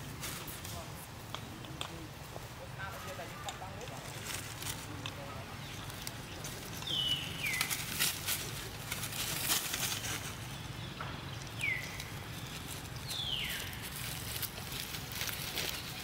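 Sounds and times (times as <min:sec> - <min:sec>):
rustling in dry leaves: 0:00.0 - 0:16.0.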